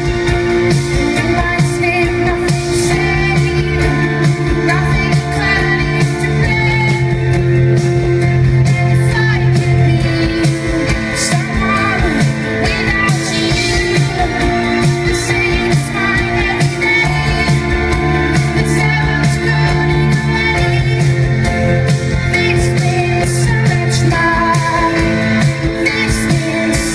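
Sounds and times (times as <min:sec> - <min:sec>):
drum kit beat with cymbals: 0:00.0 - 0:26.9
person singing: 0:00.0 - 0:26.9.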